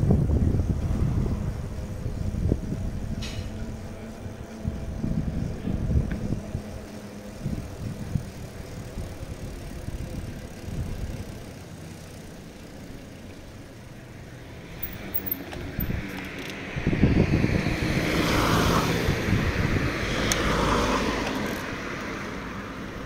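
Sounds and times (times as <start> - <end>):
bicycle rolling on asphalt: 0.0 - 23.0.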